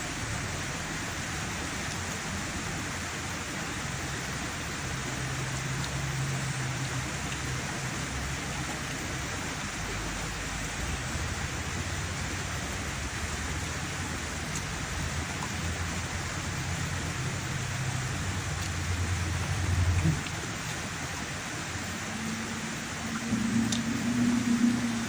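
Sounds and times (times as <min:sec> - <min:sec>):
low steady hum: 0:00.0 - 0:25.0
steady rain falling: 0:00.0 - 0:25.0.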